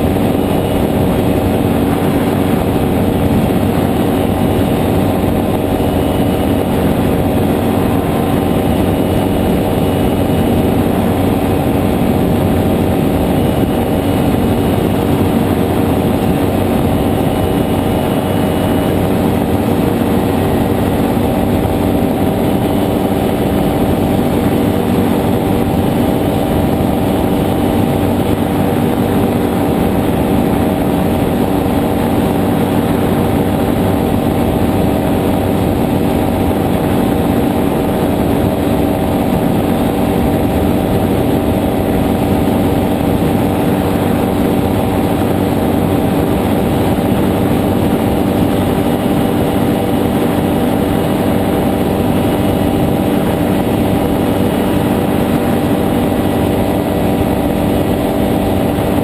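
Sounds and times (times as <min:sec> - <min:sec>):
aircraft engine droning: 0:00.0 - 0:59.0
rushing air: 0:00.0 - 0:59.0.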